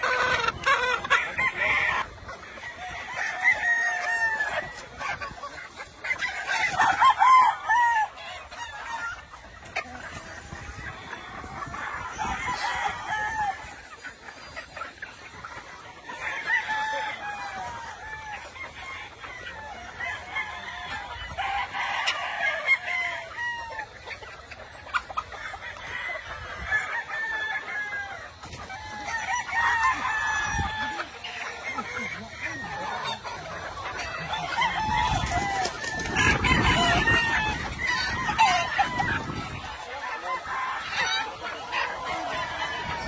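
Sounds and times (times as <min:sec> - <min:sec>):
chickens clucking: 0:00.0 - 0:43.0
roosters crowing: 0:00.0 - 0:43.0.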